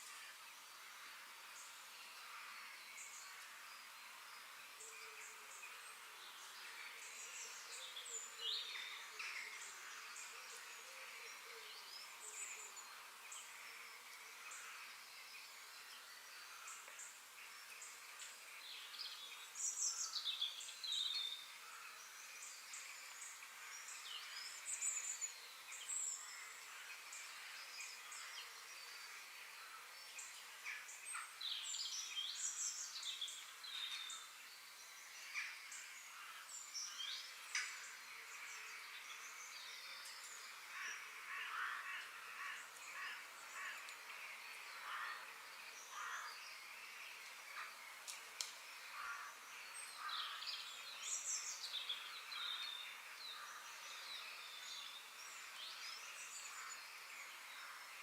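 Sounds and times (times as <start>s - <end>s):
high background hiss: 0.0s - 58.0s.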